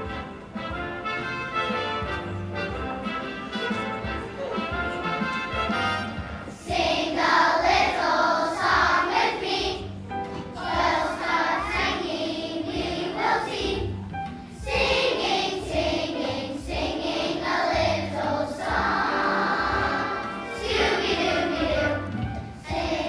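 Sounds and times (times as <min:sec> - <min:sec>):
instrumental accompaniment: 0:00.0 - 0:23.0
children's choir singing: 0:03.1 - 0:23.0.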